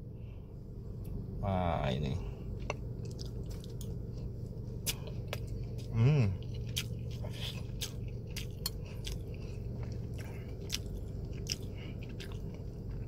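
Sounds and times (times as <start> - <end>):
steady low hum: 0.0 - 13.0
chewing fried rice: 2.5 - 13.0.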